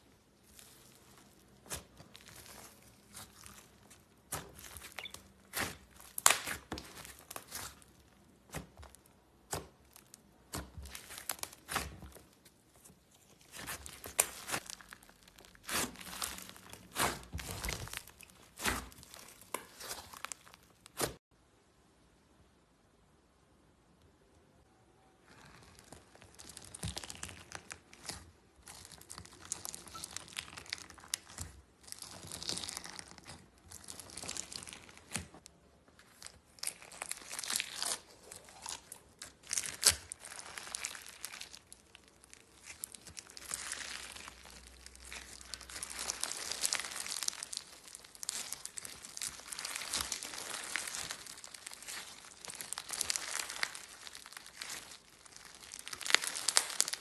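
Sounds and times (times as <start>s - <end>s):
slime crackling and popping: 0.1s - 21.2s, 25.2s - 57.0s.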